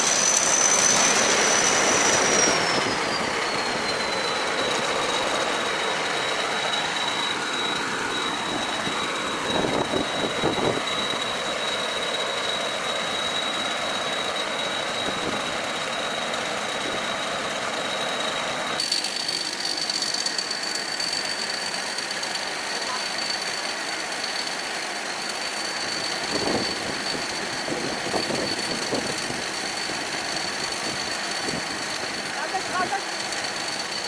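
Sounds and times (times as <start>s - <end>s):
combine harvester running: 0.0s - 34.0s
high machine whine: 0.0s - 34.0s.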